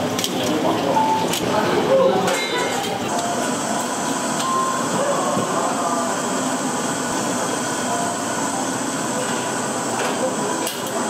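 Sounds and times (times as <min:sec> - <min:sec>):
burners and extractor fans running: 0:00.0 - 0:11.0.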